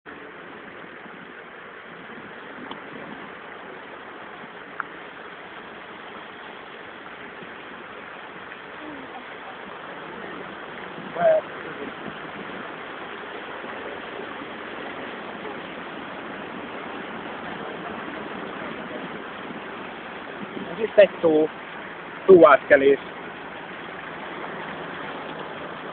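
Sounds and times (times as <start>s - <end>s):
water rushing around vehicle: 0.0s - 25.9s
vehicle engine: 0.1s - 25.9s.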